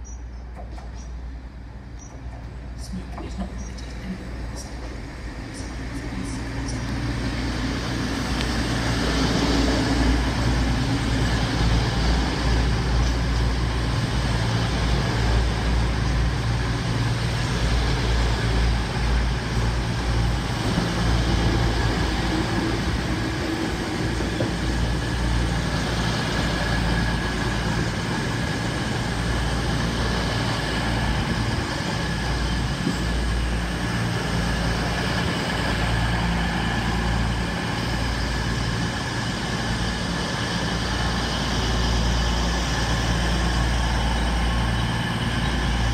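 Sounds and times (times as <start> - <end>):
train diesel engines rumbling: 0.0 - 45.9.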